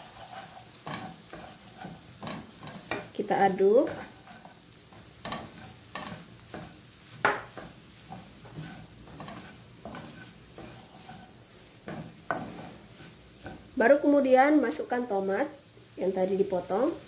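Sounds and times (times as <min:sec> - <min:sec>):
wooden spatula scraping frying pan: 0:00.0 - 0:15.0
meat sizzling: 0:00.0 - 0:17.0.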